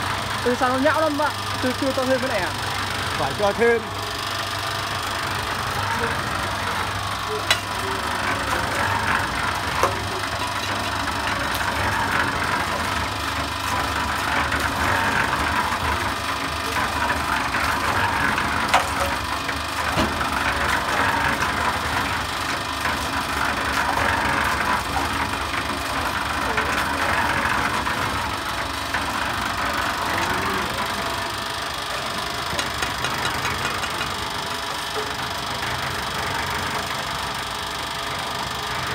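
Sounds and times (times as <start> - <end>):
concrete mixer running: 0.0 - 38.9.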